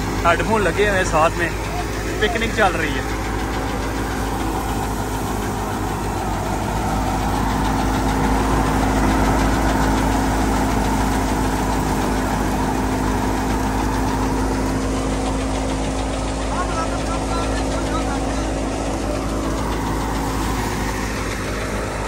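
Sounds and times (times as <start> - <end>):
thresher running: 0.0 - 22.0.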